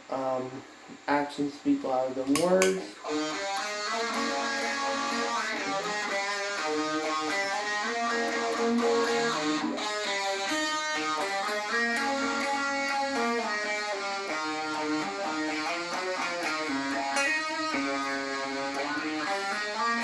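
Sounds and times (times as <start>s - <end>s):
electric guitar riff with phaser: 2.1s - 20.0s.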